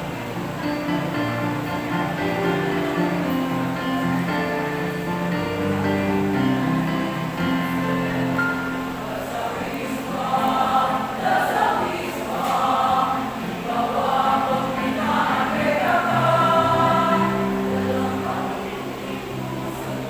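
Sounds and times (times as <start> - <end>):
women's choir singing: 0.0 - 20.0.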